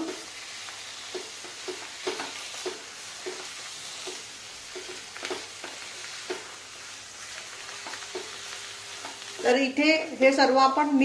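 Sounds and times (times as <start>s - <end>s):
low sizzle from hot pan: 0.0s - 11.0s.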